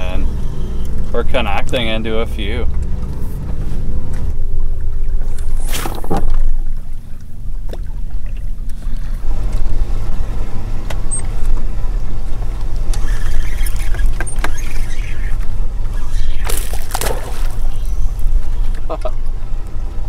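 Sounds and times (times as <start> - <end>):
lake water around a boat: 0.0 - 20.0
wind: 0.0 - 20.0.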